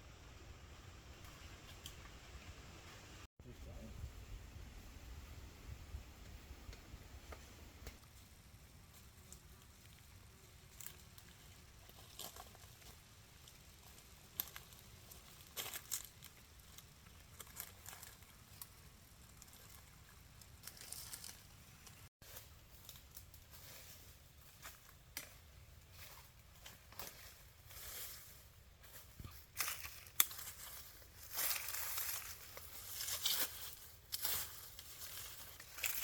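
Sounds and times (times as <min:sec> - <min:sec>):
faint crackling and rustling: 0:06.2 - 0:36.0.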